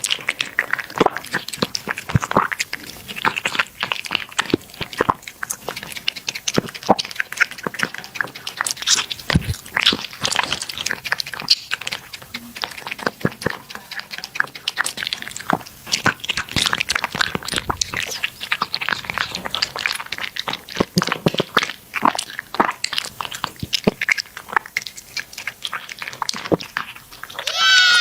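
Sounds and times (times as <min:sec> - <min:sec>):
cat chewing crunchy food: 0:00.0 - 0:28.0.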